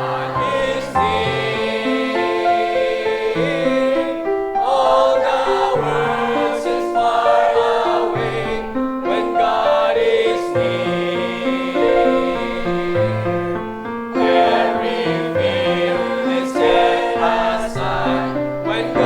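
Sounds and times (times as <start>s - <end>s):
choir singing a hymn: 0.0s - 19.0s
piano accompaniment: 0.0s - 19.0s.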